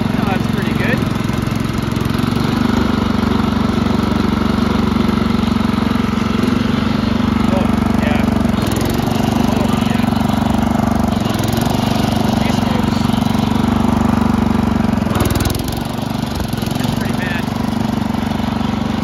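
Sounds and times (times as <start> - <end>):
garden tractor engine running: 0.0 - 19.0.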